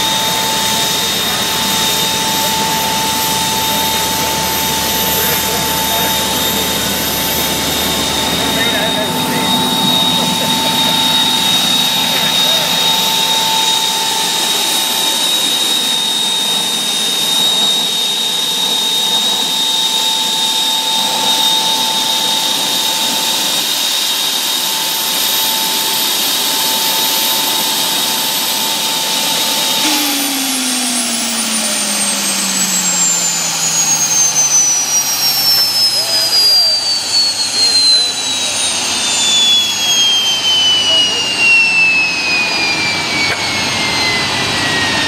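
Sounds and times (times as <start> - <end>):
turbine engine whining: 0.0 - 45.0.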